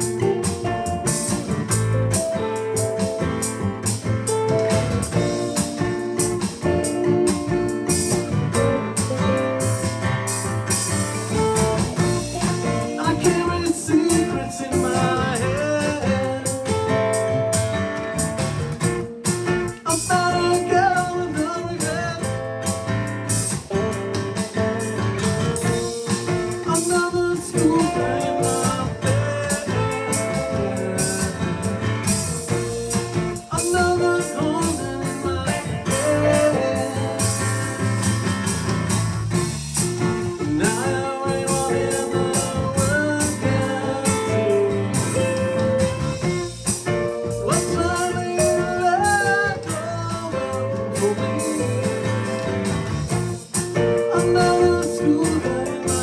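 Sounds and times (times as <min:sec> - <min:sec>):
electric guitar: 0:00.0 - 0:56.0
electronic drums: 0:00.0 - 0:56.0.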